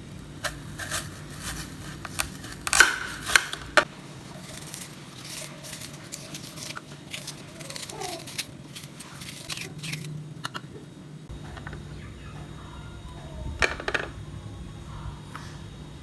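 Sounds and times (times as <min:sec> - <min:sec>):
kitchen utensils clicking and scraping: 0:00.4 - 0:14.3.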